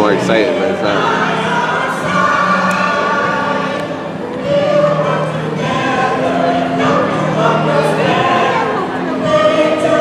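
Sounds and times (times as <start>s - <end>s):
choir singing long notes: 0.0s - 10.0s
musical accompaniment: 0.0s - 10.0s.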